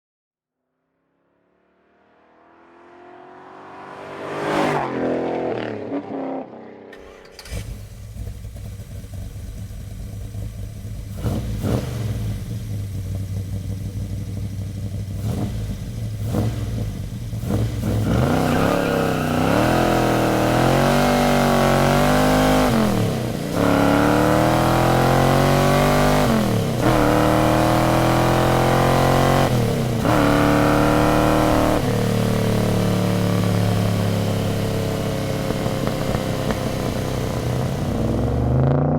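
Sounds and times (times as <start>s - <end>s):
car engine rumbling and accelerating: 1.8s - 38.9s.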